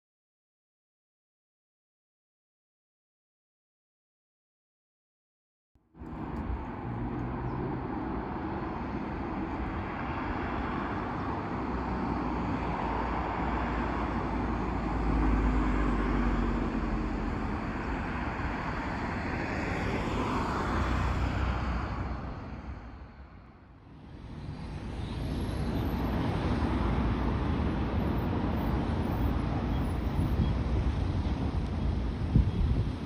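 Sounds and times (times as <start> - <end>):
traffic rumble: 5.9 - 33.0.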